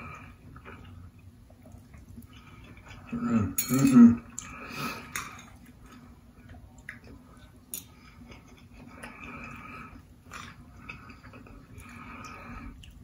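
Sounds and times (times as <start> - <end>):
person chewing food: 0.0 - 3.6, 4.2 - 13.0.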